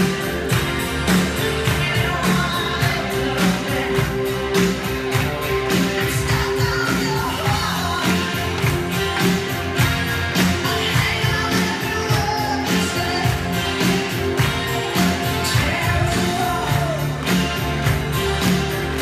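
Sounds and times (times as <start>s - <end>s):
crowd clapping along: 0.0s - 19.0s
pop-rock song with singing: 0.0s - 19.0s.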